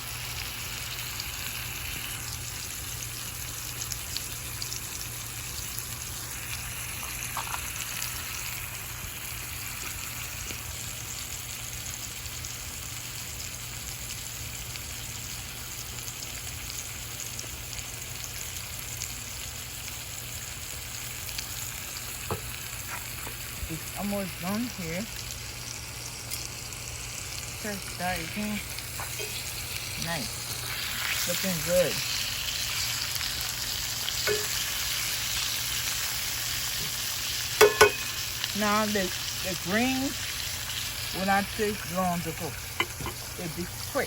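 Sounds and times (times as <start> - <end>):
chicken sizzling in hot fat: 0.0 - 44.0.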